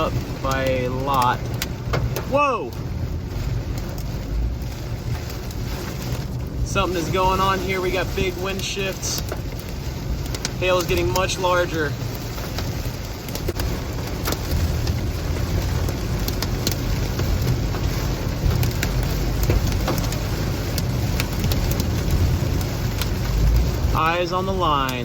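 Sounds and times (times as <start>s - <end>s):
hailstones knocking on car: 0.0s - 25.0s
heavy rain hissing: 0.0s - 25.0s
wind and road noise: 0.0s - 25.0s.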